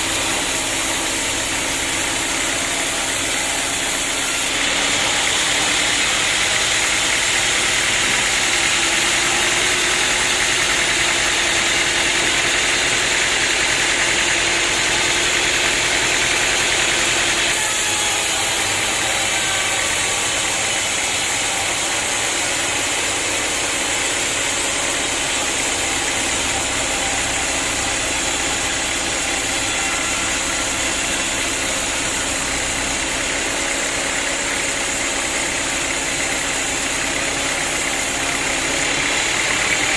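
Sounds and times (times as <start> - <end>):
saw cutting through log: 0.0 - 39.9
sawmill engine running: 0.0 - 39.9.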